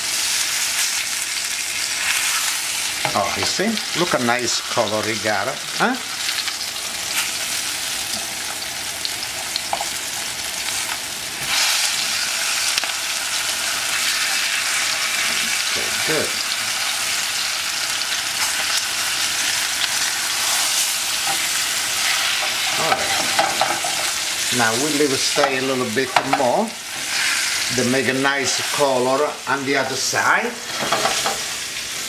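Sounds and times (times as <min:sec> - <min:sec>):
meat sizzling in hot oil: 0:00.0 - 0:32.0.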